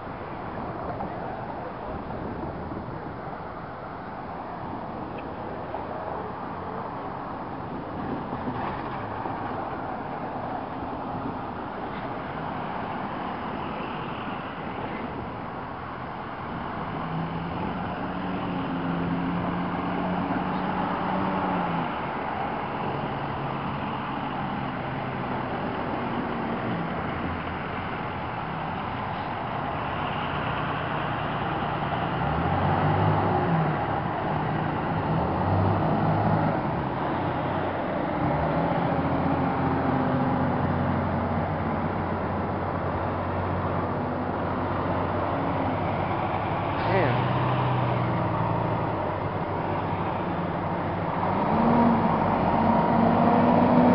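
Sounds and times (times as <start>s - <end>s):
diesel trucks driving past: 0.0s - 53.9s
road noise: 0.0s - 53.9s.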